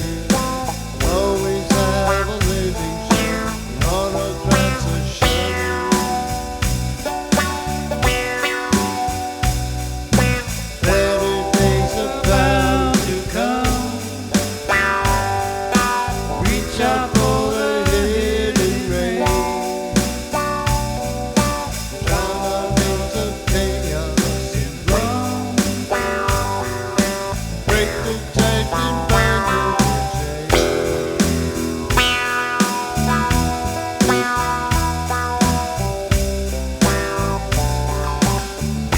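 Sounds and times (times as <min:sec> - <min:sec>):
acoustic guitars: 0:00.0 - 0:38.9
bass guitar line: 0:00.0 - 0:38.9.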